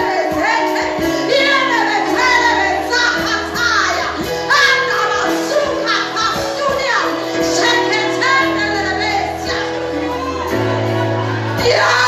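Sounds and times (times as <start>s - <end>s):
voices singing church music: 0.0s - 12.0s.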